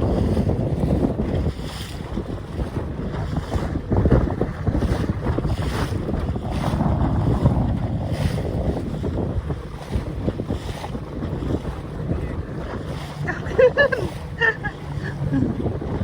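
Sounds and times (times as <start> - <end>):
rushing wind and sea: 0.0 - 16.0
wind buffeting microphone: 0.0 - 16.0.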